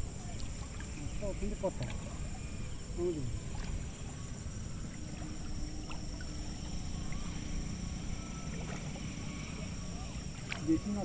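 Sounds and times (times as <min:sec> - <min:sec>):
low rumble of water and wind: 0:00.0 - 0:11.0
thin high-pitched drone: 0:00.6 - 0:11.0.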